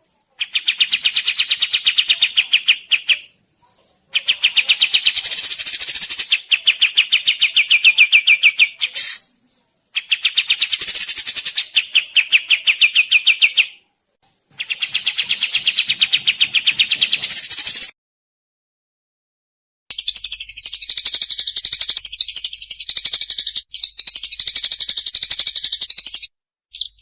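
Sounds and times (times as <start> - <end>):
songbird sharp chirps: 0.0 - 17.9, 19.9 - 27.0.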